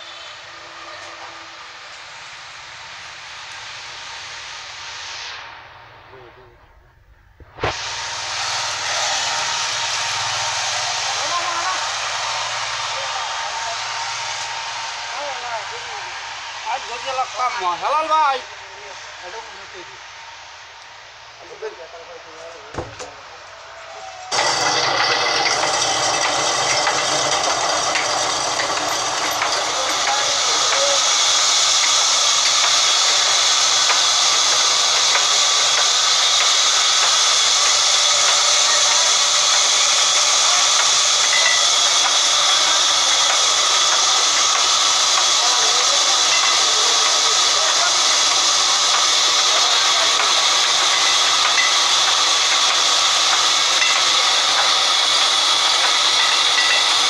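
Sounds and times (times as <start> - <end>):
sawmill machinery hiss: 0.0 - 6.6, 7.4 - 57.0
band saw running: 7.6 - 21.8, 24.2 - 57.0.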